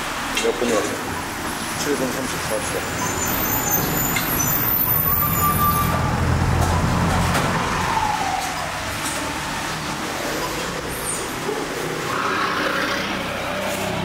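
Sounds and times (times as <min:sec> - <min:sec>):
vehicle engine rumble passing: 0:00.0 - 0:14.0.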